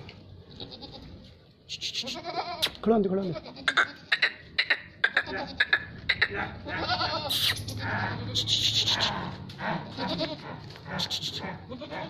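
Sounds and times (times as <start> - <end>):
goats bleating: 0.5 - 1.2, 1.8 - 12.0.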